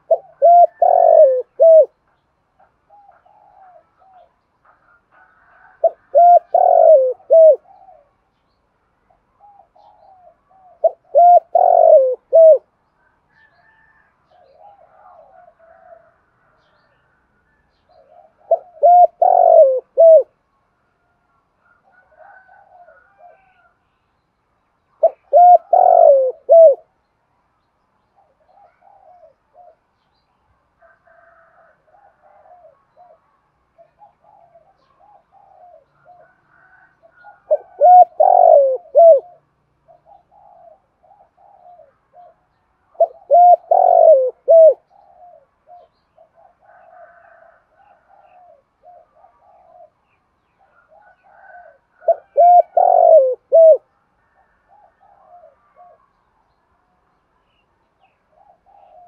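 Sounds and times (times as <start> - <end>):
dove cooing: 0.0 - 2.0, 2.6 - 8.2, 9.3 - 12.7, 13.4 - 16.2, 17.9 - 20.4, 21.7 - 23.7, 25.0 - 26.9, 28.2 - 29.9, 31.2 - 56.1, 58.3 - 59.0.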